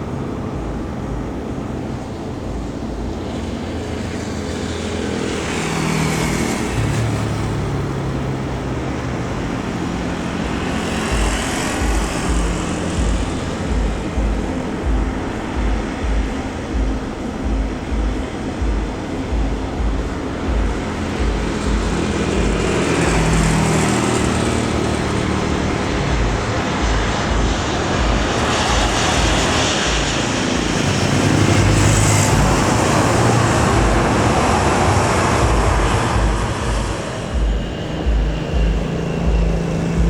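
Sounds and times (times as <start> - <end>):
jet airliner engine noise: 0.0 - 40.0.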